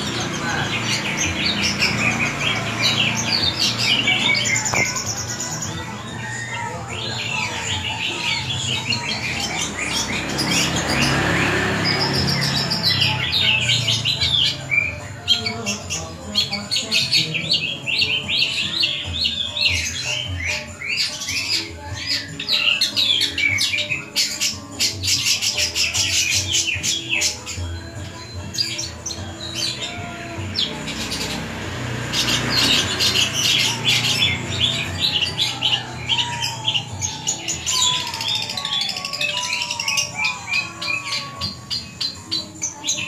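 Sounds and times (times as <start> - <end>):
bird singing chirps and trills: 0.0 - 43.0.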